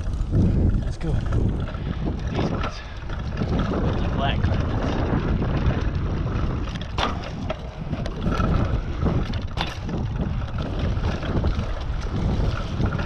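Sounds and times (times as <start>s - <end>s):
bike landing knocks and clatter: 0.0s - 13.0s
bike tyres on dirt: 0.0s - 13.0s
wind rumbling on microphone: 0.0s - 13.0s.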